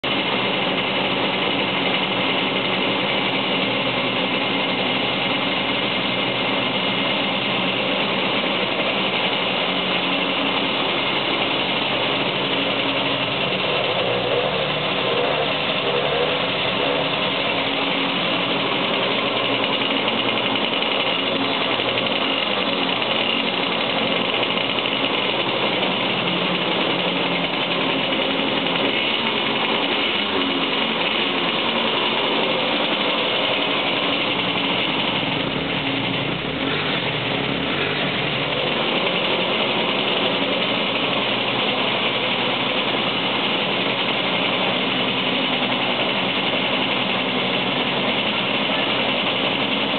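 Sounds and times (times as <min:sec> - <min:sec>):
motorcycle engines idling: 0:00.0 - 0:49.9.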